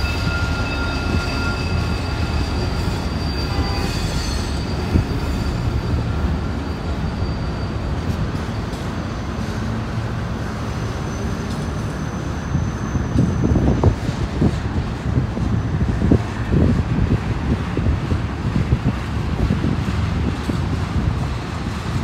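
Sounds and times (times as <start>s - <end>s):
freight train rumbling: 0.0s - 22.0s
train wheels squealing: 0.0s - 22.0s.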